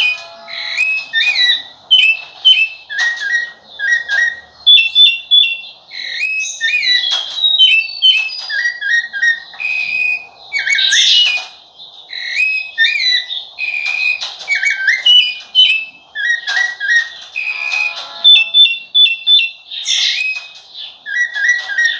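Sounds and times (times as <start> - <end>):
thrush singing whistled phrases: 0.0 - 21.9.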